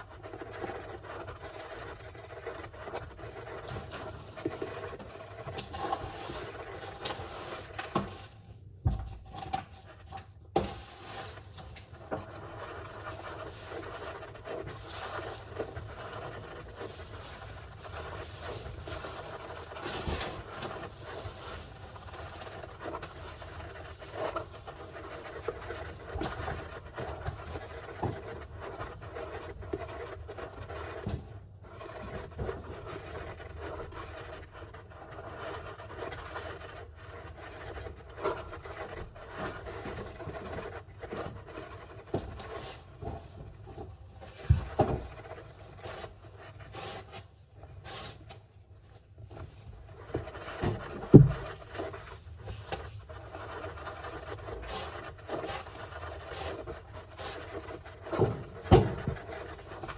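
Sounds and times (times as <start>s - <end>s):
hamster scratching and scrabbling: 0.0s - 59.9s.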